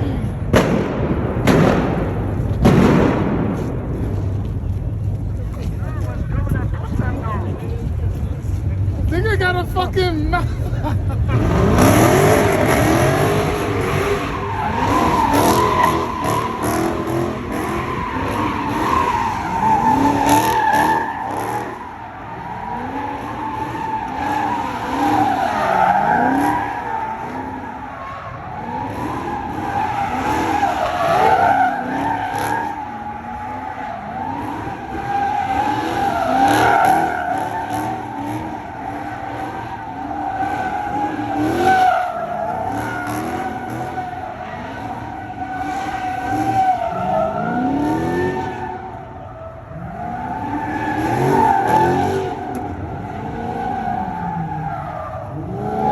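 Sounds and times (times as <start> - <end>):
car engine revving: 0.0 - 55.9
tires squealing: 0.0 - 55.9.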